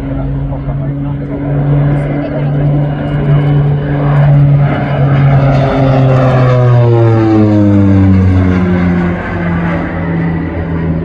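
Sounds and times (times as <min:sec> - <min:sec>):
propeller aircraft passing: 0:00.0 - 0:11.0.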